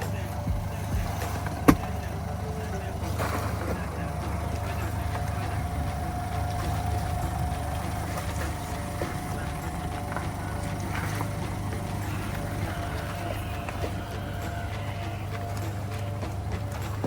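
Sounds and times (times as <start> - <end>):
thin steady whine: 0.0 - 17.0
vehicle engine rumbling: 0.0 - 17.0.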